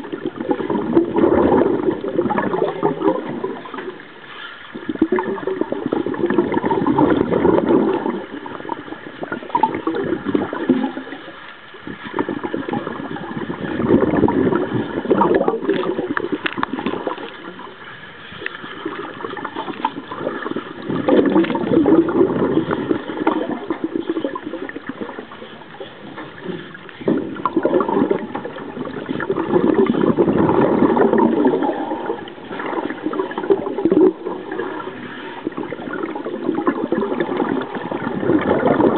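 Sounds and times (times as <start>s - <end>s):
regulator bubbles gurgling underwater: 0.0s - 38.9s.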